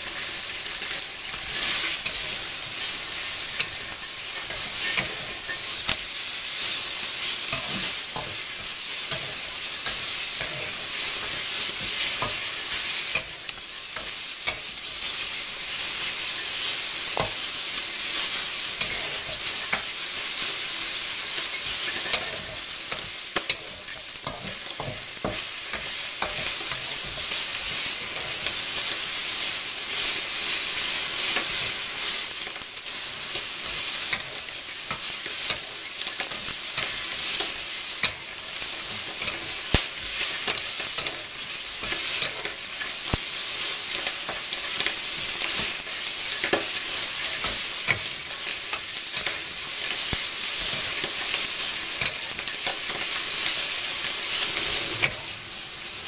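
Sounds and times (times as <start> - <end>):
spatula scraping a pan: 0.0 - 32.3, 32.9 - 55.4
meat sizzling in a pan: 0.0 - 56.0.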